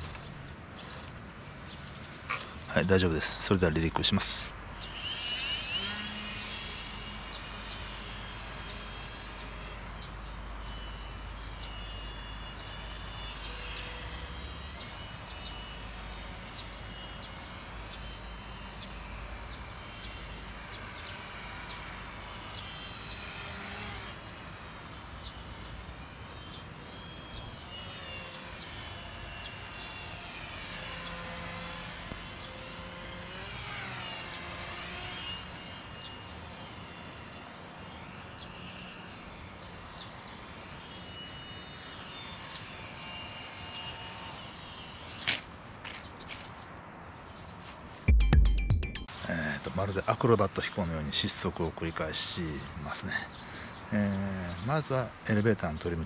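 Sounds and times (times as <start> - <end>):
model airplane motor whine: 0.0 - 48.0, 49.1 - 56.0.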